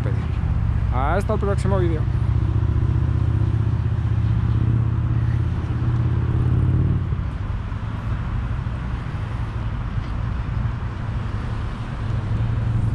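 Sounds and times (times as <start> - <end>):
traffic rumble: 0.0 - 12.9
vehicle engine hum: 0.0 - 12.9.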